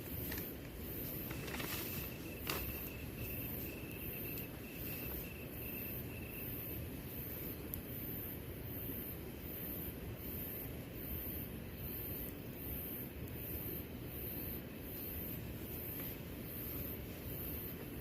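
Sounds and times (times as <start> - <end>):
insects chirping: 0.0 - 18.0
low background noise: 0.0 - 18.0.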